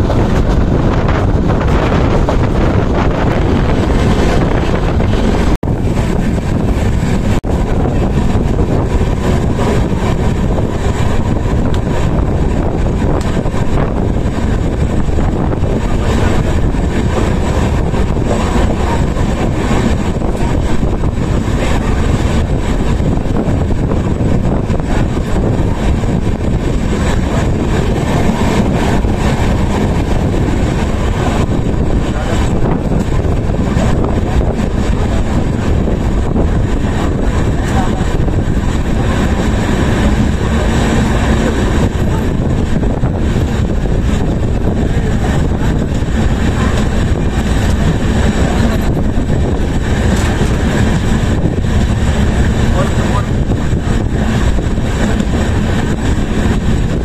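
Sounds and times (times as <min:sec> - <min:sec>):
train running noise: 0:00.0 - 0:57.0
wind rushing over microphone: 0:00.0 - 0:57.0.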